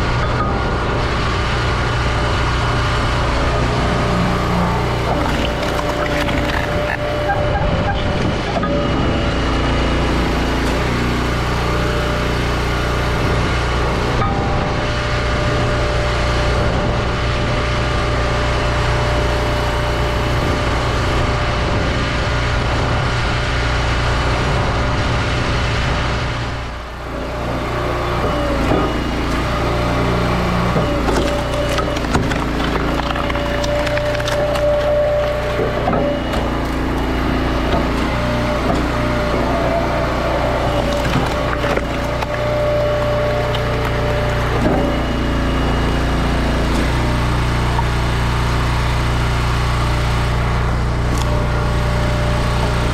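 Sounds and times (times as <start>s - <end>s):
log splitter engine running: 0.0s - 52.9s.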